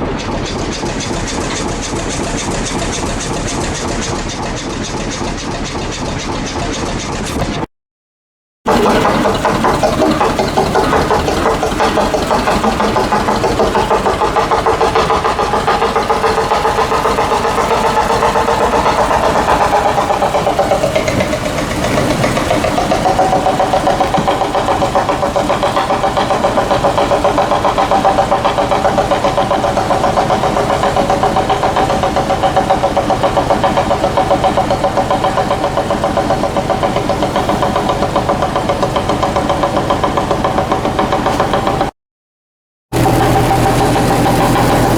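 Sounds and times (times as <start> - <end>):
locomotive engine pulsing: 0.0 - 7.7, 8.7 - 41.9, 42.9 - 44.9.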